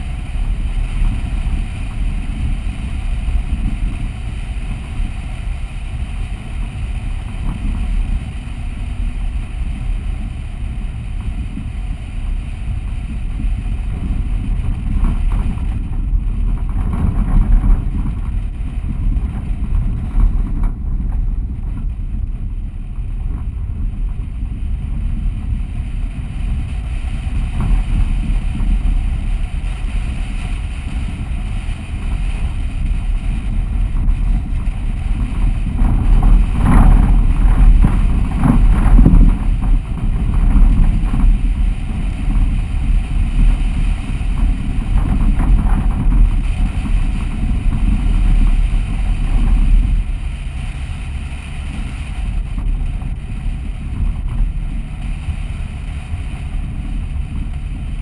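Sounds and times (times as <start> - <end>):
vehicle rumble: 0.0 - 58.0
wind buffeting microphone: 0.0 - 58.0.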